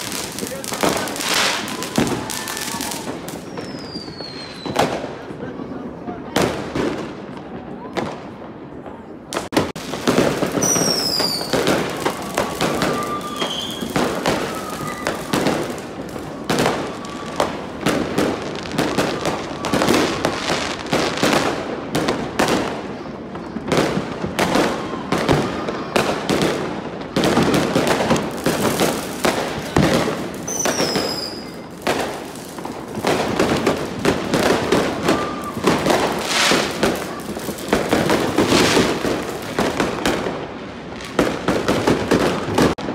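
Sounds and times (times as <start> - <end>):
whistling firework: 0.0 - 8.4, 9.0 - 42.9
fireworks bangs and crackles: 0.0 - 42.9.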